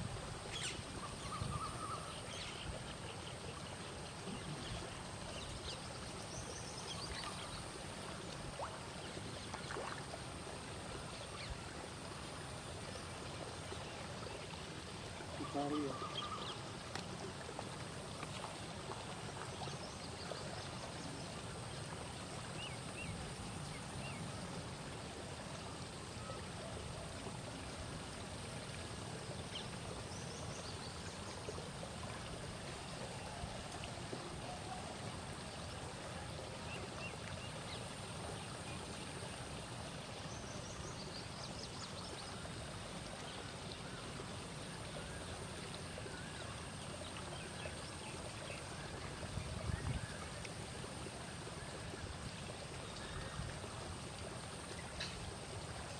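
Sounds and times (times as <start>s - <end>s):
rushing water: 0.0s - 55.9s.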